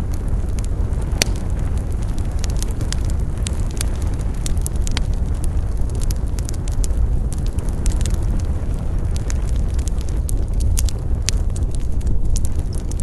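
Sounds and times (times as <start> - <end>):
campfire crackling and popping: 0.0 - 13.0
steady low rumble of fire: 0.0 - 13.0.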